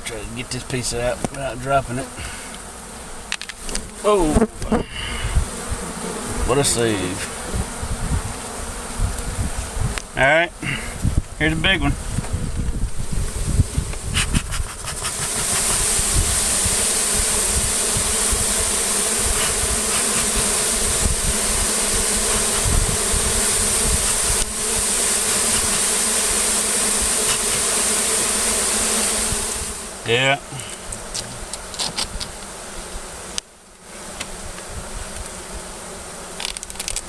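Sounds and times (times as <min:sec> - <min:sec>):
bee colony buzzing: 0:00.0 - 0:37.0.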